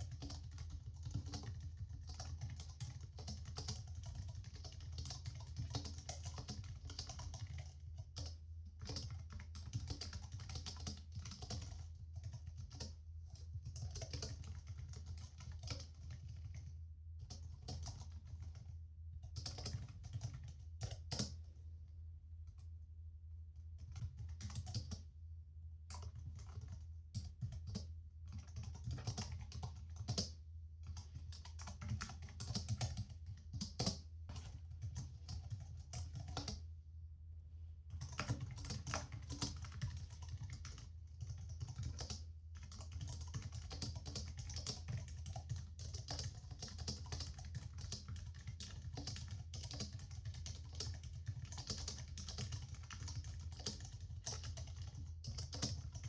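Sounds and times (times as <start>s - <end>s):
computer keyboard typing: 0.0s - 21.6s, 23.8s - 25.0s, 25.9s - 36.6s, 37.9s - 56.0s
low background hum: 0.0s - 56.0s.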